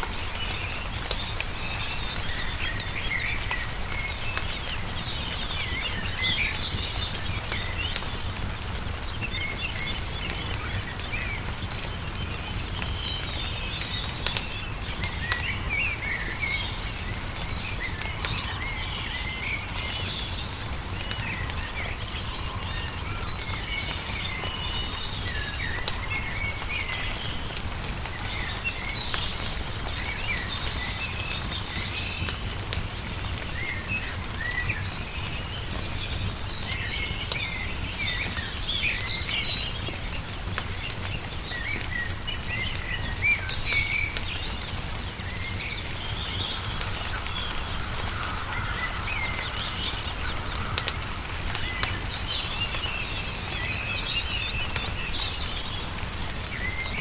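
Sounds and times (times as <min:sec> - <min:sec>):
songbirds chirping: 0:00.0 - 0:57.0
wood fire crackling: 0:00.0 - 0:57.0.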